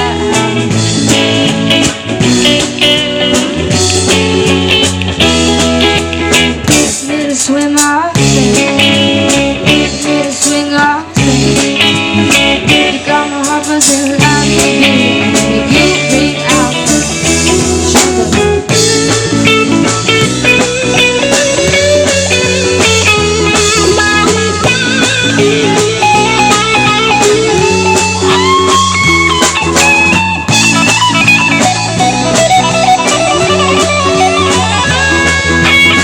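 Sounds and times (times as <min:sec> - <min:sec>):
bass: 0:00.0 - 0:36.0
drums: 0:00.0 - 0:36.0
lead electric guitar: 0:00.0 - 0:36.0.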